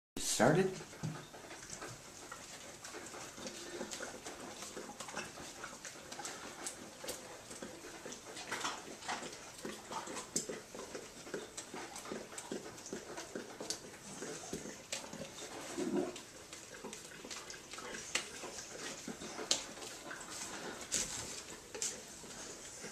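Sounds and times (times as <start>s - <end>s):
dog licking plastic tub: 0.2s - 22.9s.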